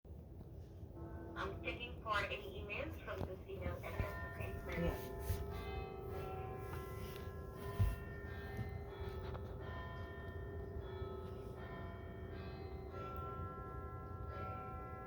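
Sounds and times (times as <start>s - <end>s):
large bells chiming: 1.0s - 15.0s.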